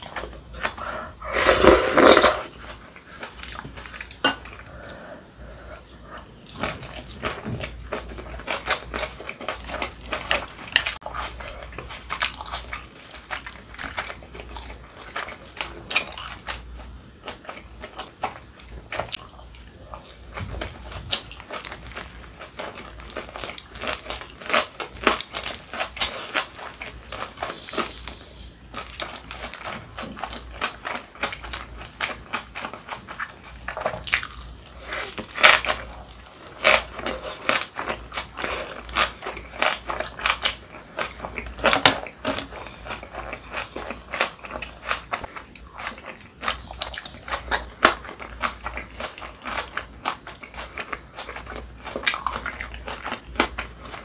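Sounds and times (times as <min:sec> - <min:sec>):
crunchy chewing: 0:06.0 - 0:54.0.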